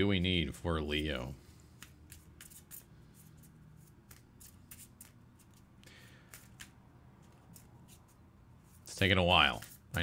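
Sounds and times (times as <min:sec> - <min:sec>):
cards shuffling: 0:01.7 - 0:10.0.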